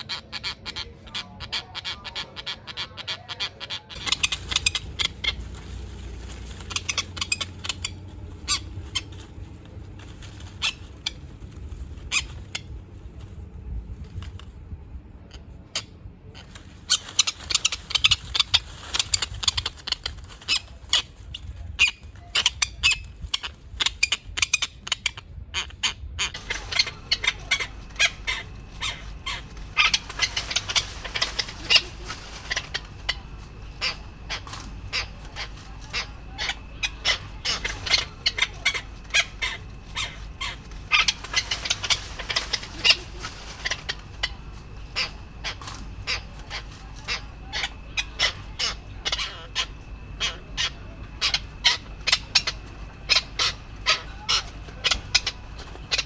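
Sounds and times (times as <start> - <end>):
birds giving shrill calls: 0.0 - 12.9, 15.3 - 56.0
steady low rumble: 0.0 - 56.0.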